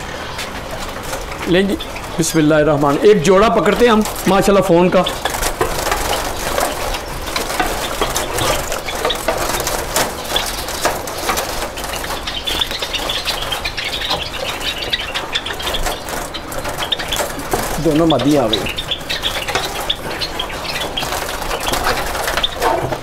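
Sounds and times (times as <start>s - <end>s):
birds fluttering in cage: 0.0s - 23.0s.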